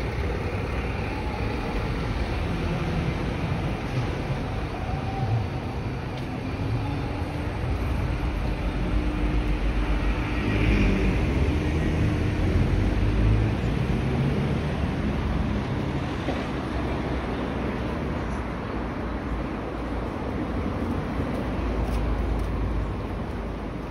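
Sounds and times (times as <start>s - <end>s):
cars driving past: 0.0s - 23.9s.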